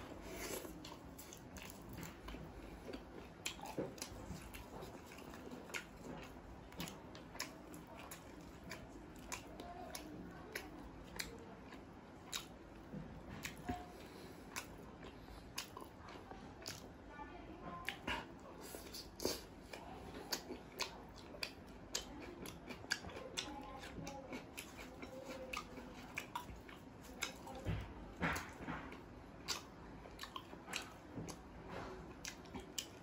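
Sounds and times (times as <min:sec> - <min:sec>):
person chewing with mouth smacks: 0:00.2 - 0:16.9, 0:17.8 - 0:33.0.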